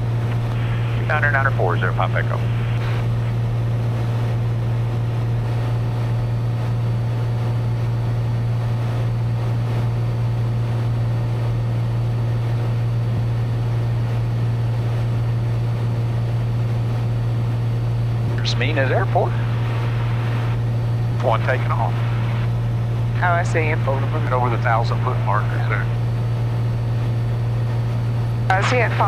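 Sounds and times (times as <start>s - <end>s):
airplane engine droning in cabin: 0.0s - 29.0s.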